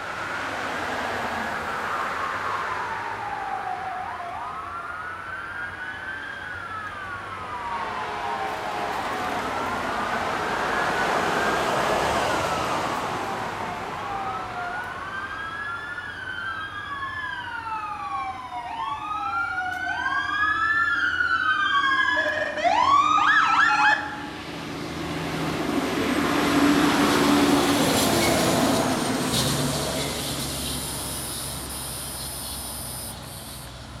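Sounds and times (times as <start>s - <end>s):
fire engine siren wailing: 0.0s - 33.1s
truck engine and road noise: 0.0s - 34.0s.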